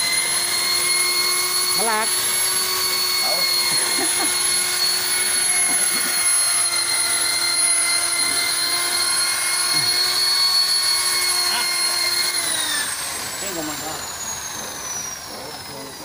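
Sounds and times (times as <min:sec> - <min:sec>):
car polisher motor whine: 0:00.0 - 0:16.0.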